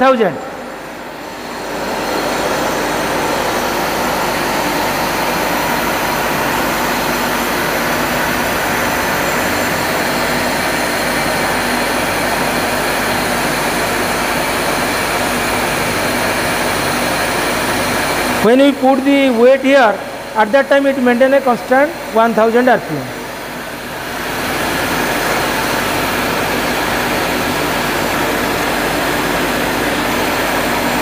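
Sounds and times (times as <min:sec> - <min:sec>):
machine whir: 0:00.0 - 0:31.0.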